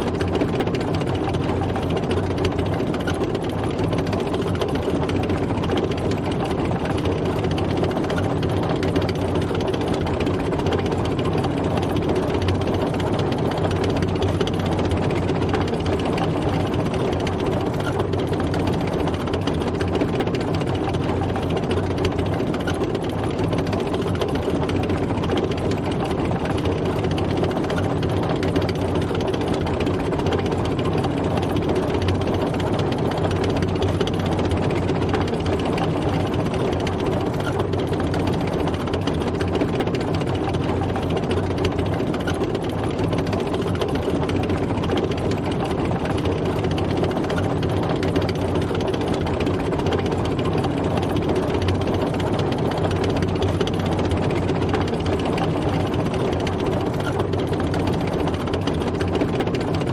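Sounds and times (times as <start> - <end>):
tank engine with mechanical rattle: 0.0 - 59.9.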